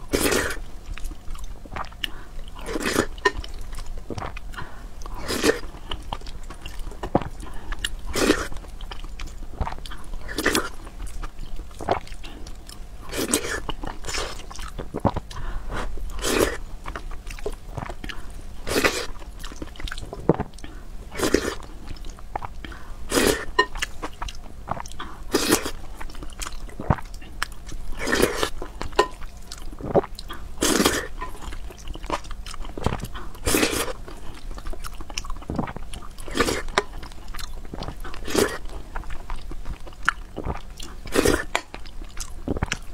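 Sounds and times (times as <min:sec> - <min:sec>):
chewing and wet mouth sounds: 0:00.0 - 0:42.9.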